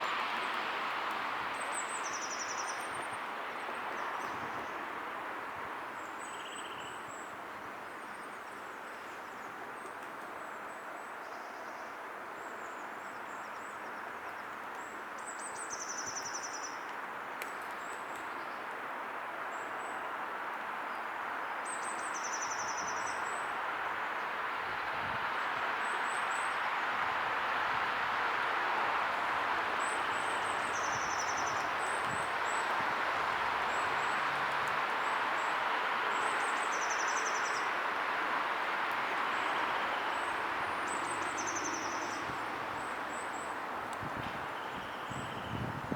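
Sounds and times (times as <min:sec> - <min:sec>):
rushing outdoor background noise: 0:00.0 - 0:45.9.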